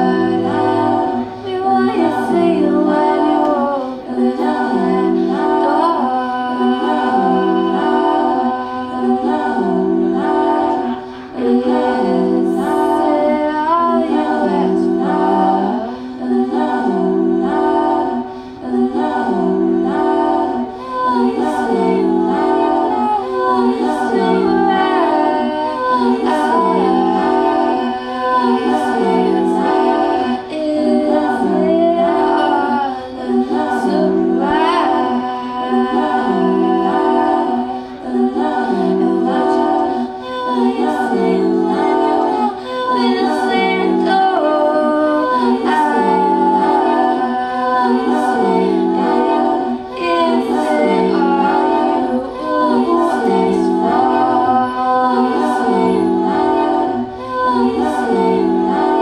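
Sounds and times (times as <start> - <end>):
looped choir-like voices: 0.0 - 59.0
woman singing into a microphone: 0.0 - 59.0.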